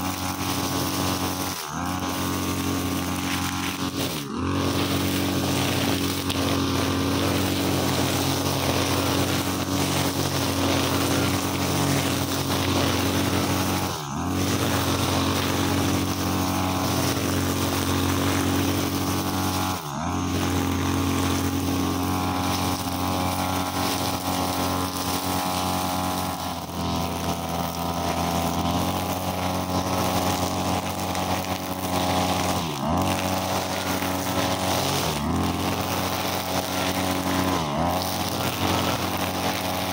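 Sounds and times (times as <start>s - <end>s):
brushcutter engine high revs: 0.0s - 39.9s
nylon line cutting grass: 0.0s - 39.9s.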